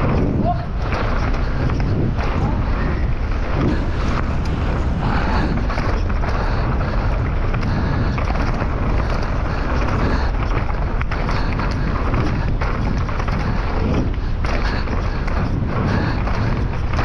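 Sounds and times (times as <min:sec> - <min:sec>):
bike rattling: 0:00.0 - 0:17.0
tyres rumbling on dirt: 0:00.0 - 0:17.0
wind on microphone: 0:00.0 - 0:17.0.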